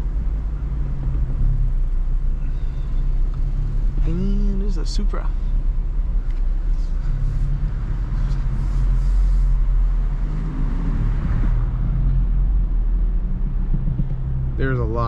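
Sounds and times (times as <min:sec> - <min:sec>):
car engine running: 0:00.0 - 0:15.0
road rumble: 0:00.0 - 0:15.0.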